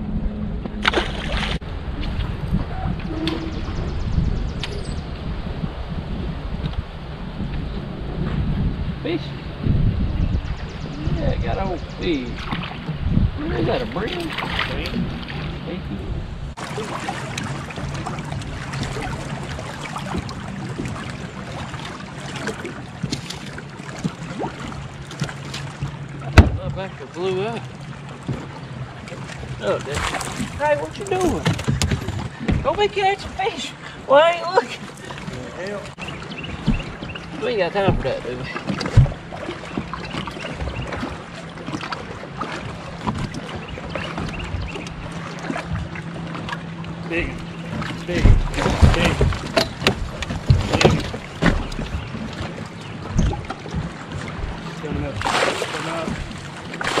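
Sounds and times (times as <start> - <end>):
water around a boat: 0.0 - 57.0
wind: 0.0 - 57.0.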